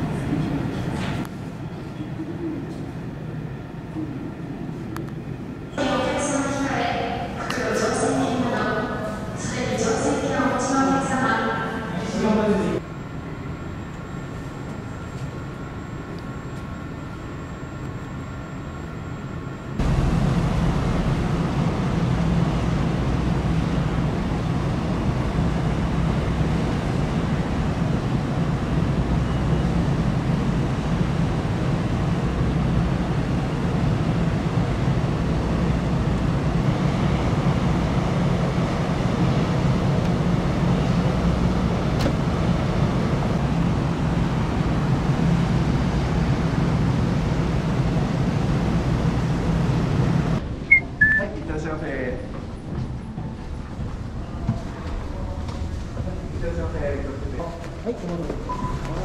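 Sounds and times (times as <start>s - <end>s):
ship machinery droning: 5.6s - 54.4s.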